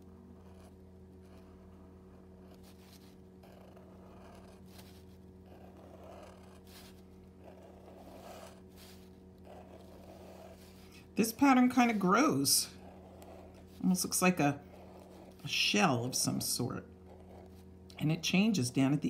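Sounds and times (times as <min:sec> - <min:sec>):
steady low hum: 0:00.0 - 0:19.0
marker scratching on paper: 0:00.3 - 0:17.7.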